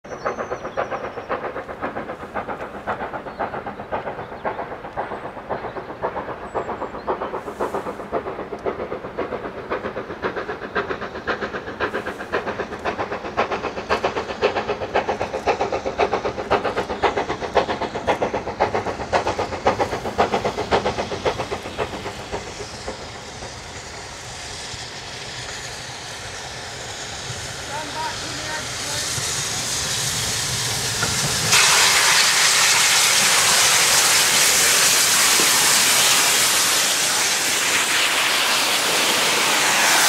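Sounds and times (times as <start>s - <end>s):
steam locomotive exhaust beating: 0.0s - 40.0s.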